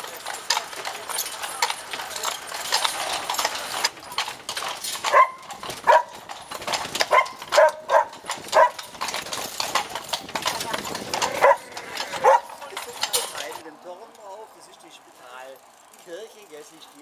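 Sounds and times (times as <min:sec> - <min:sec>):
hooves clip-clopping on cobblestones: 0:00.0 - 0:17.0.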